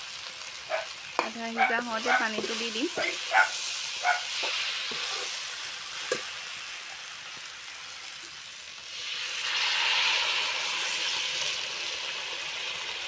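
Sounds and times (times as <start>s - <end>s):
curry sizzling in a pan: 0.0s - 13.0s
water hissing in hot pan: 0.0s - 13.0s.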